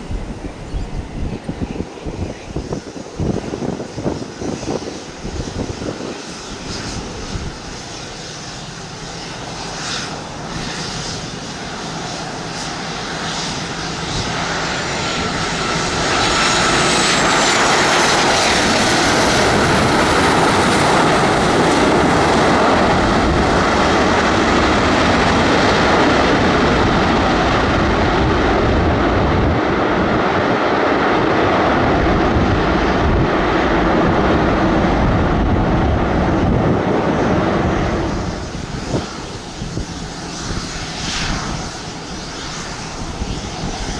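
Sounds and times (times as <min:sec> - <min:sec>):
airliner engines rushing: 0:00.0 - 0:43.9.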